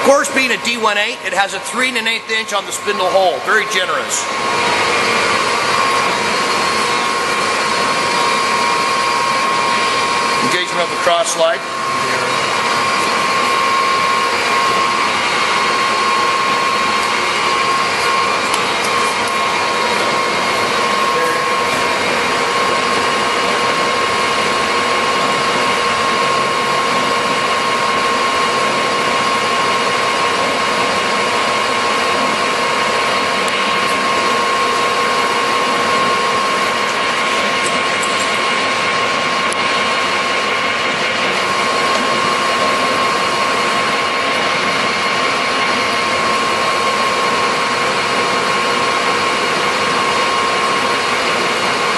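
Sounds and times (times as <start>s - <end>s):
lathe running: 0.0s - 51.9s.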